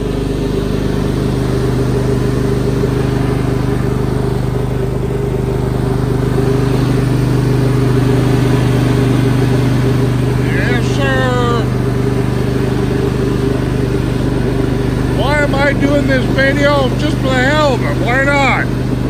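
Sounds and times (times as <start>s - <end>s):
riding lawn mower engine running: 0.0s - 19.0s.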